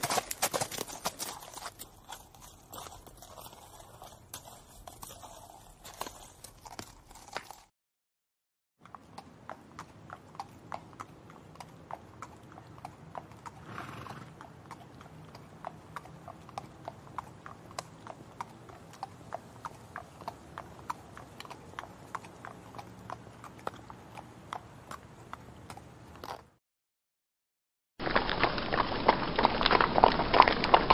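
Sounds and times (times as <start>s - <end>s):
horse hooves clip-clopping: 0.0s - 7.7s, 8.8s - 26.6s, 28.0s - 30.9s.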